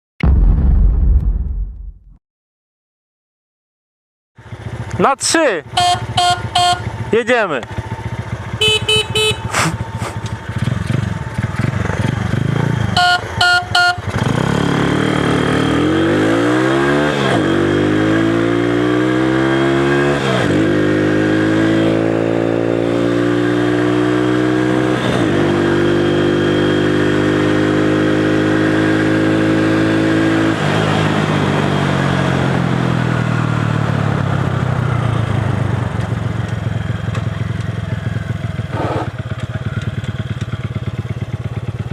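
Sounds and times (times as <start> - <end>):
motorcycle engine accelerating: 4.4 - 5.0, 5.6 - 41.9.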